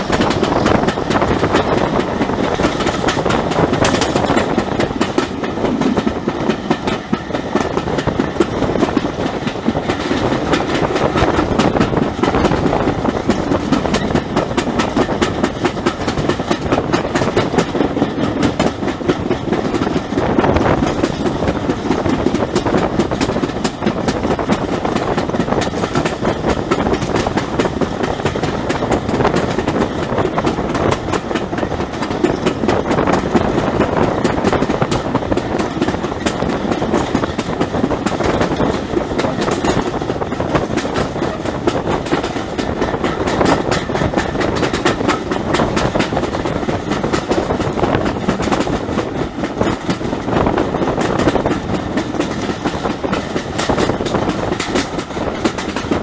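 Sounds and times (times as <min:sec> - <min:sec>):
rapid clatter of clicks: 0:00.0 - 0:56.0
train wheels rumbling on rail: 0:00.0 - 0:56.0.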